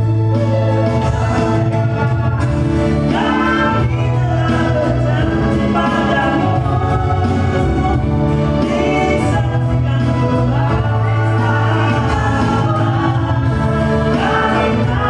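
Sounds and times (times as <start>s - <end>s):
instrumental backing: 0.0s - 15.0s
voices singing: 0.5s - 15.0s.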